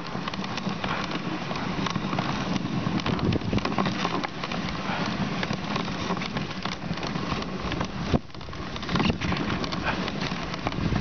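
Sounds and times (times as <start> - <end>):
sled crackles and knocks: 0.0 - 11.0
sled runners scraping snow: 0.0 - 11.0.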